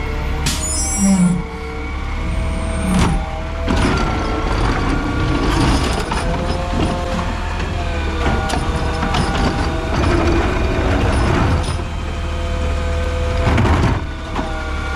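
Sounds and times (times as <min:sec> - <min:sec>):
garbage truck engine running: 0:00.0 - 0:14.9.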